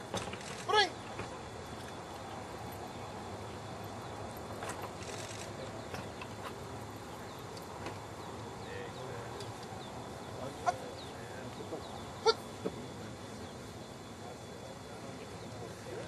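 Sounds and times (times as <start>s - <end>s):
small birds chirping: 1.8s - 16.0s.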